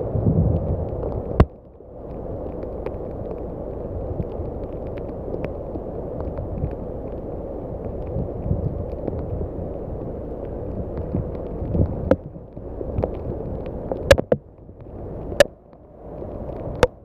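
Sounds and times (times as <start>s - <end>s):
heavy rain and moving water: 0.0s - 17.0s
low rumble: 0.0s - 17.0s.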